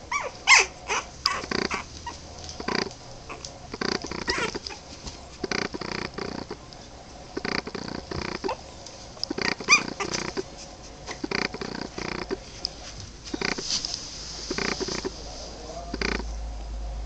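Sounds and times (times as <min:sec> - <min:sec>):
puppies grunting and squeaking: 0:00.0 - 0:15.2, 0:15.9 - 0:16.4.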